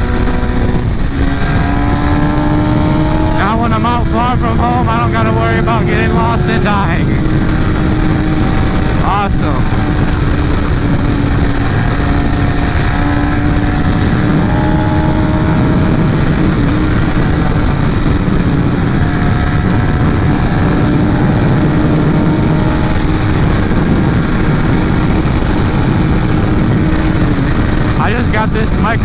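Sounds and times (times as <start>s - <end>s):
constant rush of noise: 0.0s - 29.0s
motorcycle engine cruising: 0.0s - 29.0s.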